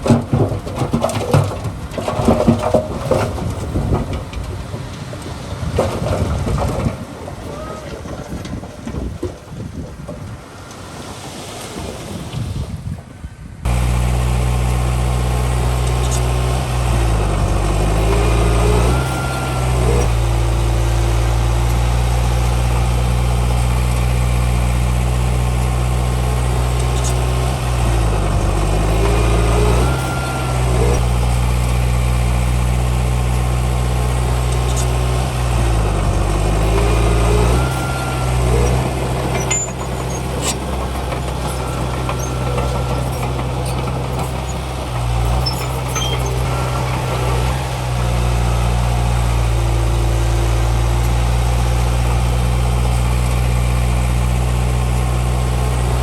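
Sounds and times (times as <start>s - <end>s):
heavy diesel engine running: 0.0s - 12.2s, 13.4s - 56.0s.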